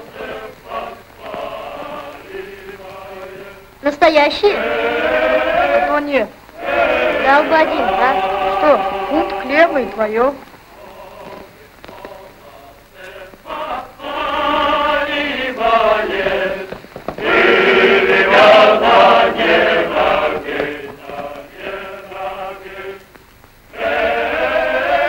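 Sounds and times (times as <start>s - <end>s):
men's choir singing: 0.0s - 23.1s, 23.7s - 25.0s.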